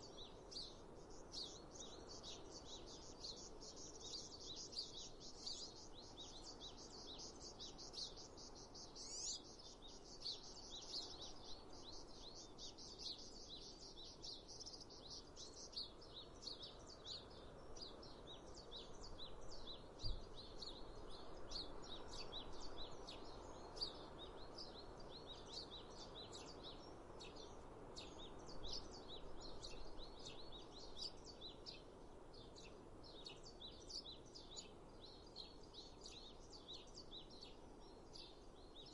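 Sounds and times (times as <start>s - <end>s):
outdoor background hiss: 0.0s - 38.9s
small birds chirping and singing: 0.0s - 38.9s.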